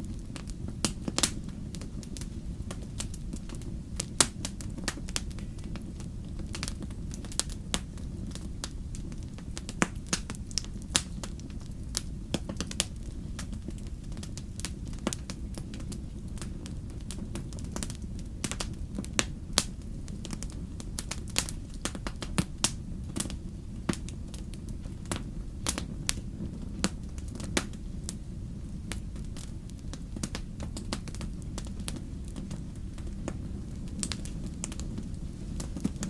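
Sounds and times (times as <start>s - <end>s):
burning logs crackling: 0.0s - 36.0s
fire low rumble: 0.0s - 36.0s.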